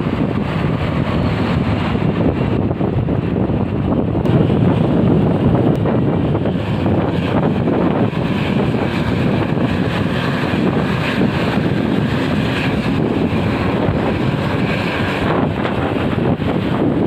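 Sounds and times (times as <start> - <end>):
motorcycle engine and road noise: 0.0 - 17.0
wind rush on microphone: 0.0 - 17.0.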